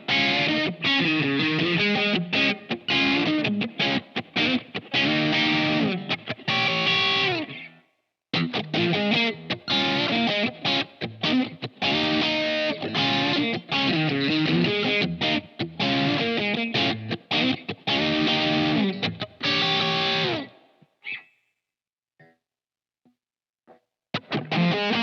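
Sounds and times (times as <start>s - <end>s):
distorted electric guitar: 0.0s - 20.6s, 23.7s - 25.0s.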